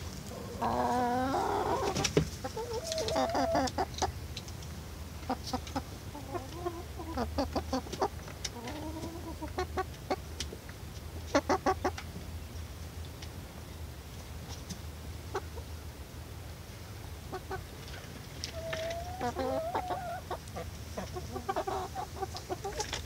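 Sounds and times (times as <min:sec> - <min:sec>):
hens clucking: 0:00.0 - 0:12.2, 0:14.4 - 0:15.8, 0:17.0 - 0:23.0.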